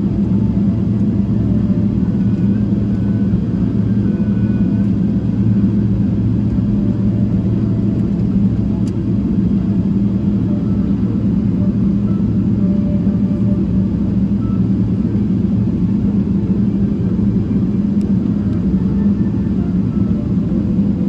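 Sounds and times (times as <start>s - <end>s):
jet engines idling drone: 0.0s - 21.0s
wheels rumbling on taxiway: 0.0s - 21.0s.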